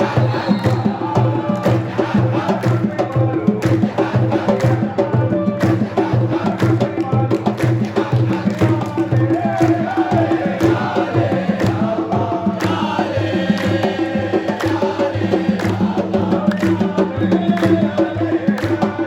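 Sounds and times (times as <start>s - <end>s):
crowd chanting: 0.0s - 19.0s
drum beats: 0.0s - 19.0s.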